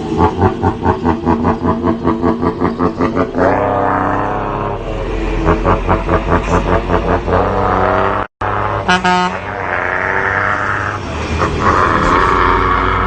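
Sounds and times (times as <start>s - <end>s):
diesel truck engine chugging: 0.0s - 13.0s.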